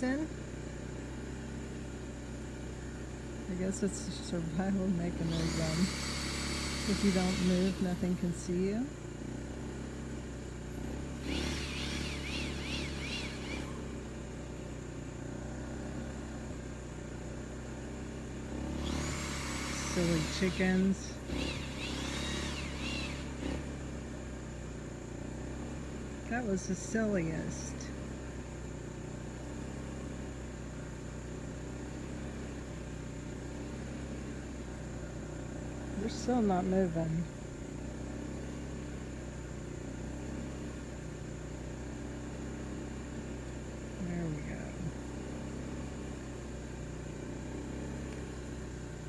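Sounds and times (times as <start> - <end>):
small engine humming: 0.0 - 49.0.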